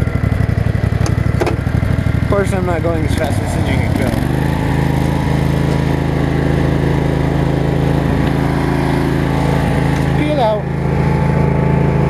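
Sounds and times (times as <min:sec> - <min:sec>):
riding lawn mower engine running: 0:00.0 - 0:12.0.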